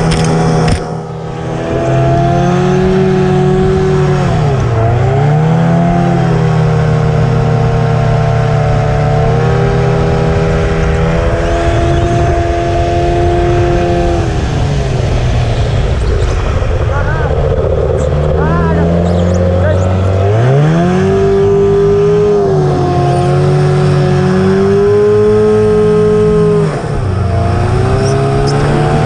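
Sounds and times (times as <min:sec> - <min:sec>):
racing boat engine at high revs: 0:00.0 - 0:29.0
rushing wind: 0:00.0 - 0:29.0
water noise: 0:00.0 - 0:29.0.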